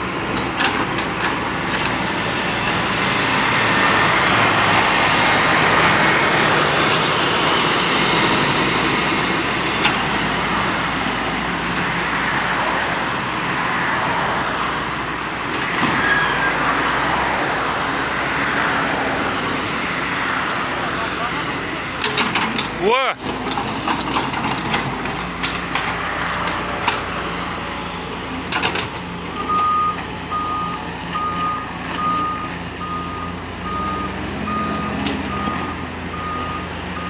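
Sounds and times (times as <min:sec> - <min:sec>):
diesel engine running: 0:00.0 - 0:37.0
road traffic noise: 0:00.0 - 0:37.0.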